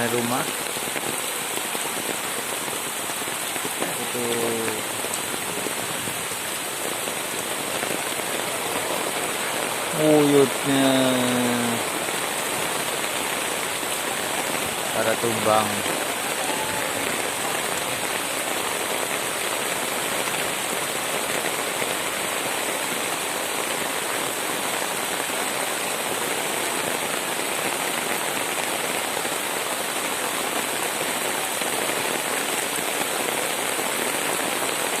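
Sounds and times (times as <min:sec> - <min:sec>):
steady rain pattering: 0:00.0 - 0:35.0.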